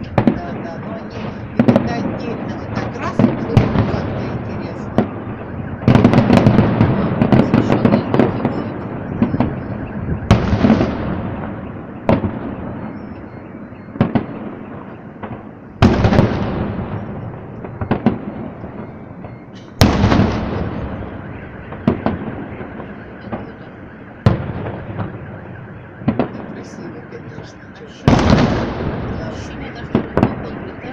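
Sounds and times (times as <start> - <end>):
firework booms: 0.0 - 30.9
firework crackling: 0.0 - 30.9.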